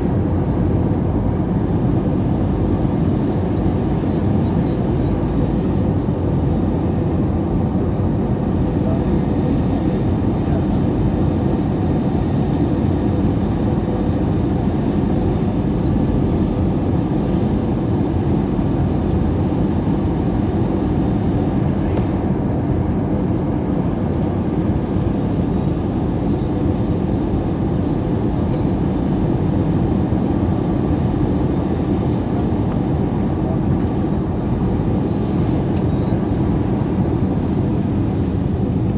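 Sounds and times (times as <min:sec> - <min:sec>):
airliner engine rumble and hiss: 0:00.0 - 0:38.9.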